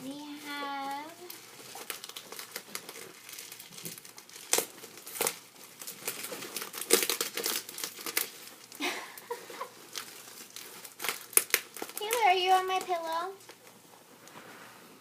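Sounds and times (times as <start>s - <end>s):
packaging crinkling and rustling: 0.0s - 14.6s
packaging tearing: 0.5s - 13.7s.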